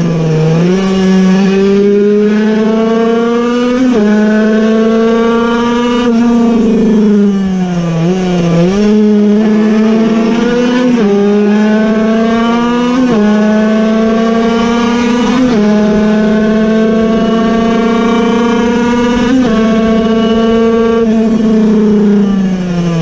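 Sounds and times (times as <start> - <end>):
two-stroke racing engine revving: 0.0 - 23.0.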